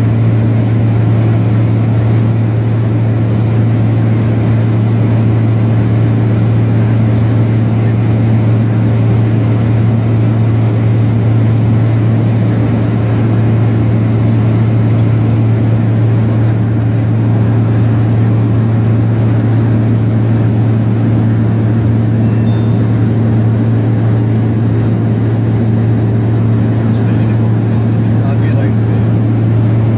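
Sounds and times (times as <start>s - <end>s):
aircraft engine drone: 0.0s - 29.9s.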